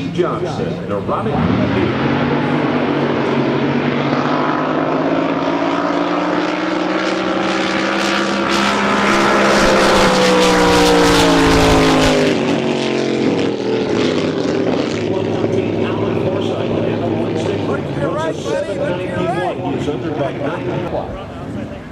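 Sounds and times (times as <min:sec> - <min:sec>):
boat engine running: 0:00.0 - 0:21.9.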